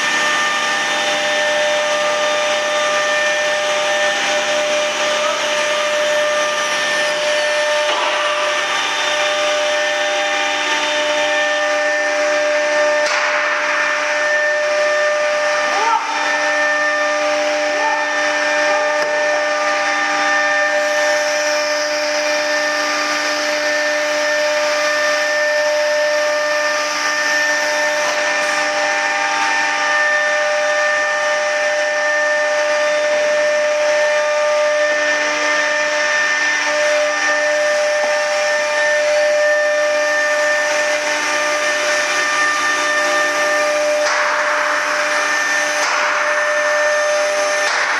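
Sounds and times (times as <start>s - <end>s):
router spindle whining: 0.0s - 47.9s.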